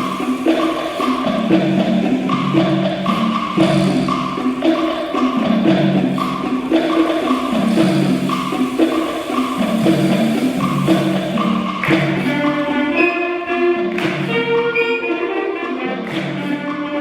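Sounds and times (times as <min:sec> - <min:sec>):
wind band playing: 0:00.0 - 0:17.0.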